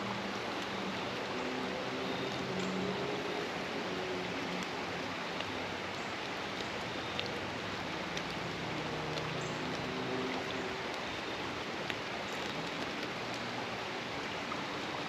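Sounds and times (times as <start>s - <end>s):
creek water rushing: 0.0s - 15.0s
low water gurgles: 0.0s - 15.0s.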